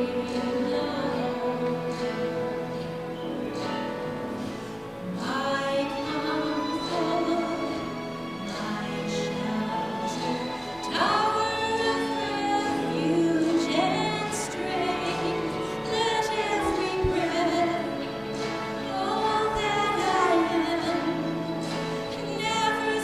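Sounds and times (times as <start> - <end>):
classical singing with vibrato: 0.0 - 23.0
sustained instrumental accompaniment: 0.0 - 23.0.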